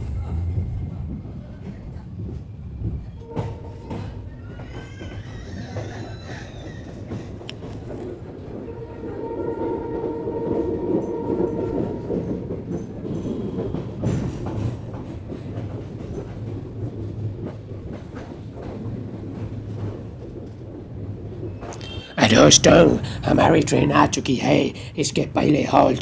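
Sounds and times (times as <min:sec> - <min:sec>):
train coaches rumbling on rails: 0:00.0 - 0:26.0
wheels clacking over rail joints: 0:00.0 - 0:26.0.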